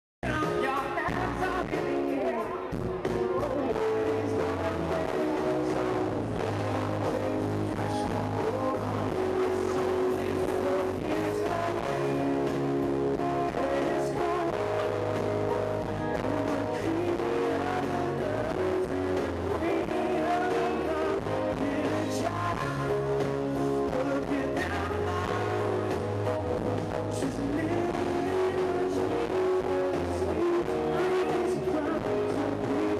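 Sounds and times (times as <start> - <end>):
live band music: 0.2 - 32.9
person singing: 0.2 - 32.9
steady bass line: 0.2 - 32.9.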